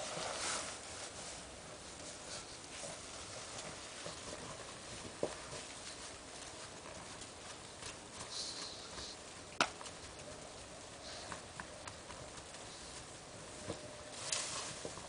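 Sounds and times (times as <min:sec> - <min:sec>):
dog sniffing: 0:00.0 - 0:09.5, 0:10.9 - 0:13.6.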